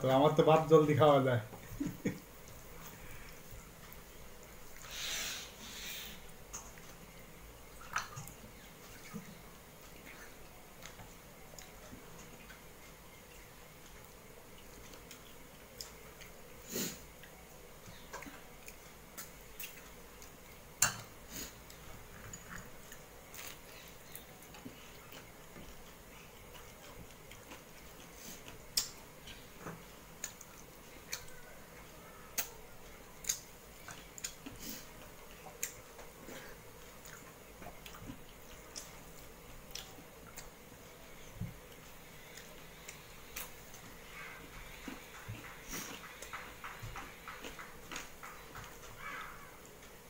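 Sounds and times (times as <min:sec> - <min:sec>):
low steady hiss: 0:00.0 - 0:50.0
chewing smacks: 0:07.8 - 0:50.0.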